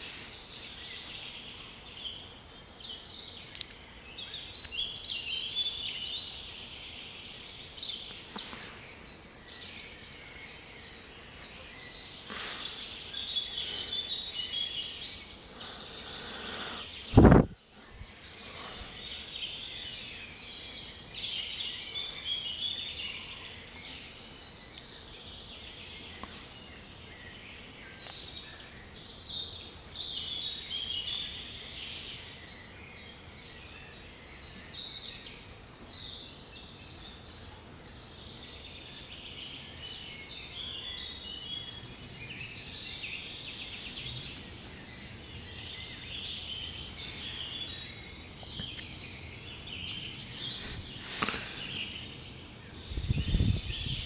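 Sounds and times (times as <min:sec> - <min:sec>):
low outdoor background: 0:00.0 - 0:54.0
songbirds singing: 0:00.0 - 0:54.0.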